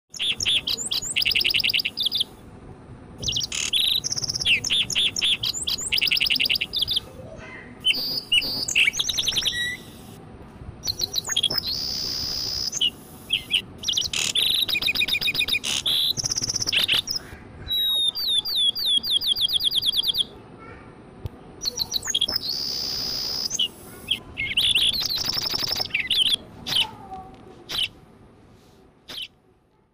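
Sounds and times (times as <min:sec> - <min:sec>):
sparrow chirping and trilling: 0:00.1 - 0:02.4, 0:03.2 - 0:10.2, 0:10.8 - 0:20.4, 0:21.6 - 0:27.0, 0:29.1 - 0:29.4.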